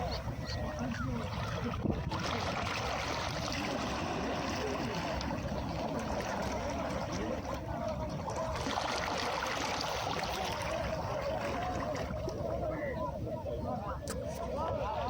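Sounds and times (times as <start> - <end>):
sea waves washing on beach: 0.0 - 15.0.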